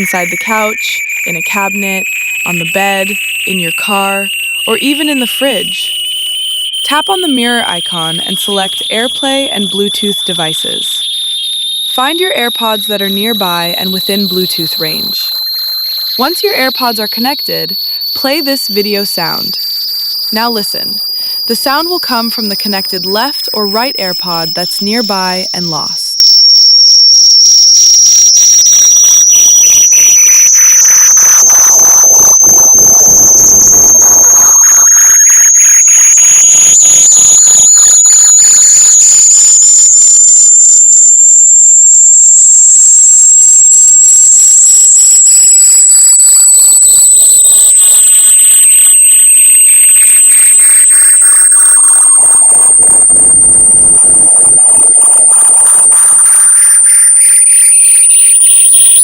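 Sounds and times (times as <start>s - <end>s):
piercing electronic tone rising: 0.0s - 59.0s
sweeping electronic tones: 0.0s - 59.0s.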